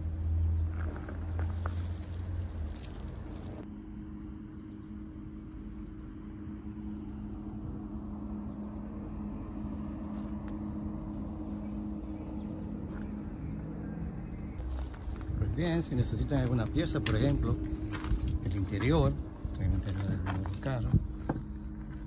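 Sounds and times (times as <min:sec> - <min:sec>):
low mechanical hum: 0:00.0 - 0:22.0
low rumble: 0:00.0 - 0:22.0.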